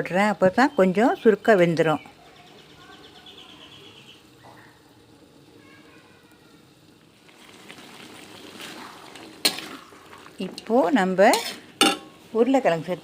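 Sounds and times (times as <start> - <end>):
curry sizzling and bubbling in pot: 0.0 - 13.0.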